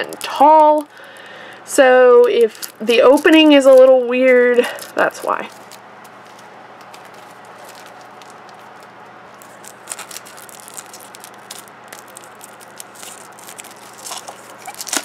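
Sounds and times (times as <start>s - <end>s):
cellophane crinkling: 0.0s - 15.0s.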